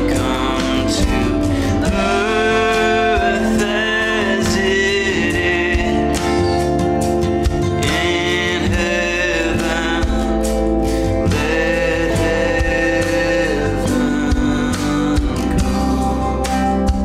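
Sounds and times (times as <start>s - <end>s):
instrumental accompaniment: 0.0s - 17.0s
person singing slow melody: 0.0s - 17.0s.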